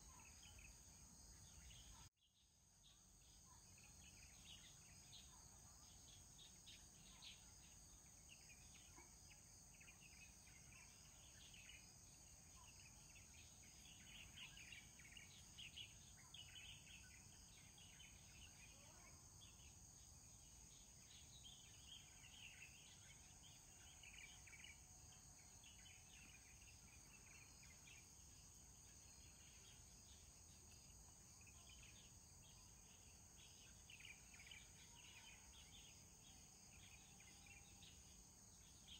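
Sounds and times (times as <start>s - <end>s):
faint chirps: 0.0s - 38.9s
high insect drone: 2.7s - 38.9s.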